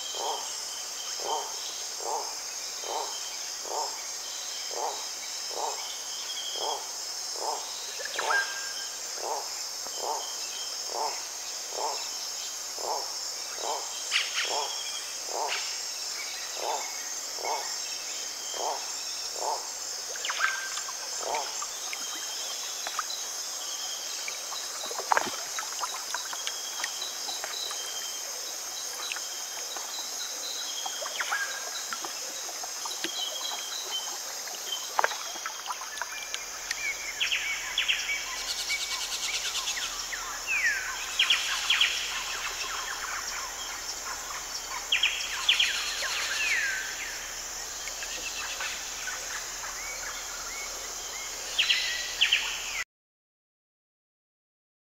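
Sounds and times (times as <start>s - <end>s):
high-pitched insect chorus: 0.0s - 52.8s.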